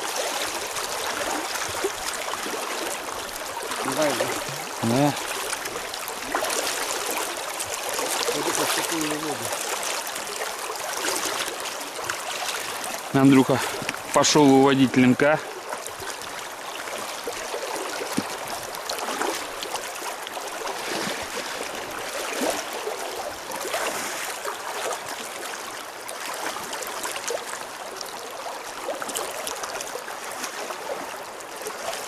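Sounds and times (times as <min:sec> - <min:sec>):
river current gurgling: 0:00.0 - 0:32.0
small water splashes: 0:00.0 - 0:32.0.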